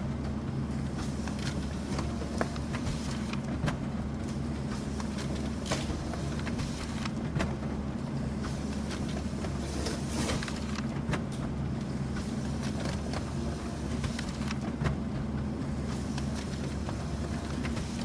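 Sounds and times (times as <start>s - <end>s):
printer humming: 0.0s - 18.0s.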